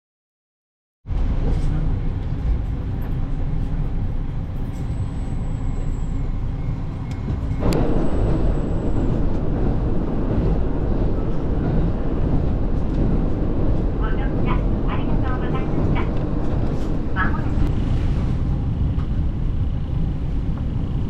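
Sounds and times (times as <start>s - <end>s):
train rumbling: 1.1s - 21.0s.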